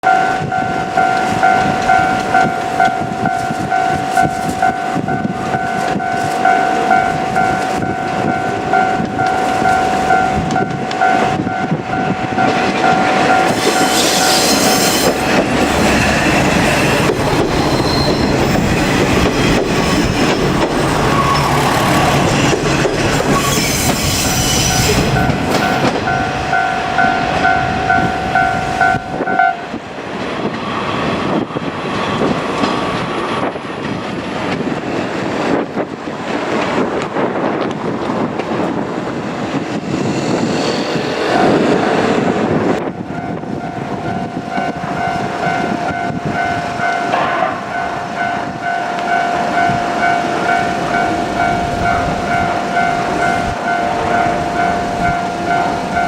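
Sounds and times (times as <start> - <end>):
diesel railcar engine passing: 0.0 - 56.0
train wheels on rails: 0.0 - 56.0.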